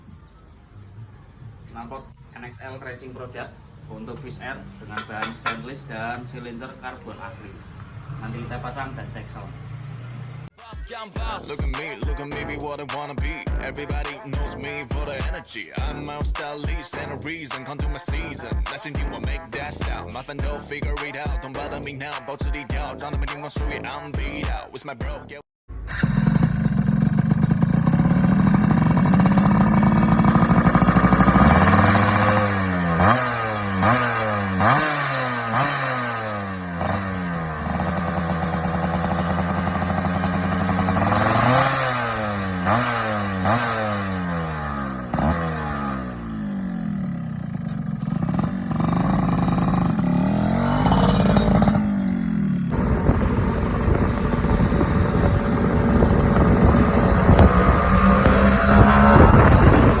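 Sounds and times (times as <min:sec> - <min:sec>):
motorcycle engine idling and revving: 0:02.6 - 0:10.6, 0:11.2 - 0:21.9, 0:25.7 - 1:00.0.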